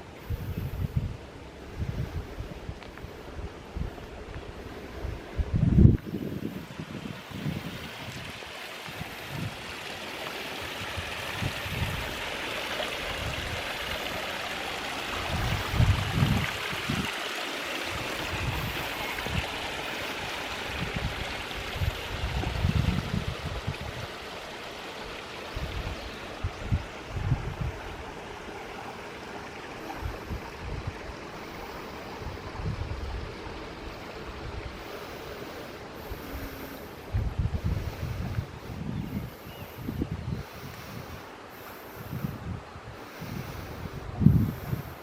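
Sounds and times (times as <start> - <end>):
steady rushing hiss: 0.0 - 45.0
wind buffeting microphone: 0.0 - 45.0.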